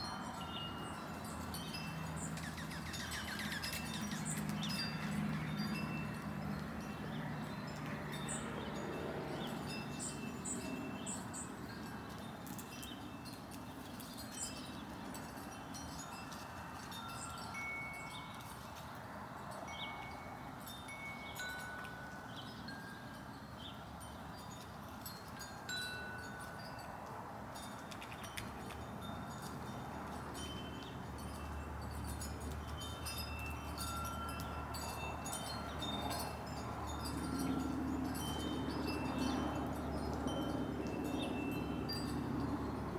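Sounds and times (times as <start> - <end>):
wind chimes ringing: 0.0 - 42.9.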